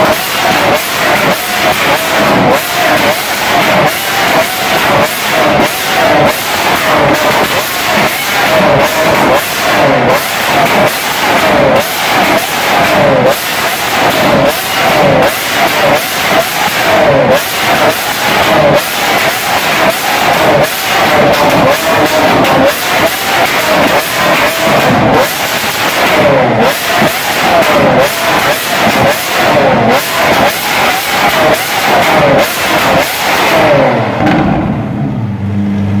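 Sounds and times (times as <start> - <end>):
car engine revving: 0.0 - 36.0
exhaust backfires: 0.0 - 36.0.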